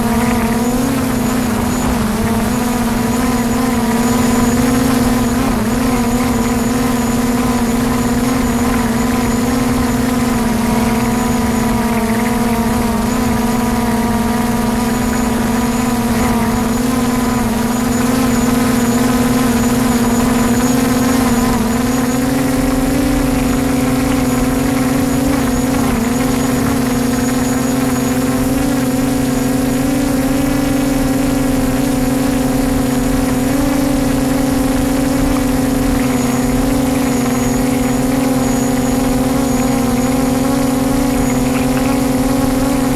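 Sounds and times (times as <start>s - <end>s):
drone propellers buzzing: 0.0s - 42.9s.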